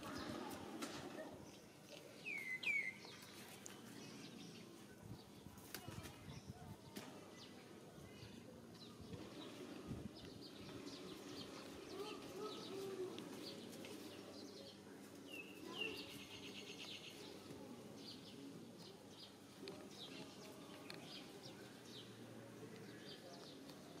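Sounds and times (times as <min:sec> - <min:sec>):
small birds chirping: 0:01.4 - 0:24.0.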